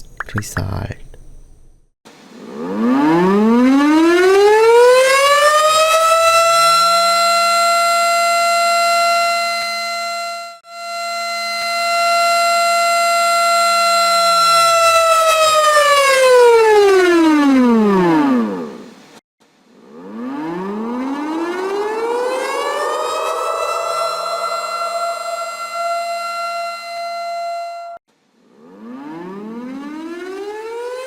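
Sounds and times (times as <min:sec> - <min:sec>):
tornado siren wailing: 0:02.5 - 0:18.7, 0:19.8 - 0:28.0, 0:28.6 - 0:31.0.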